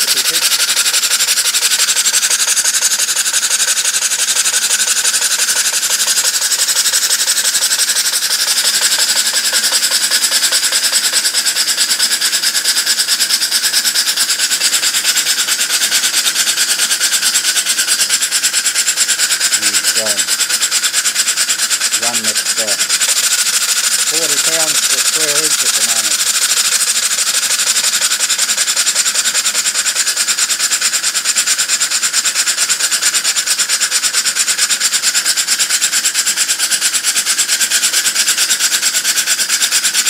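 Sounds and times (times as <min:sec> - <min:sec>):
steam engine exhaust hissing: 0:00.0 - 0:40.0.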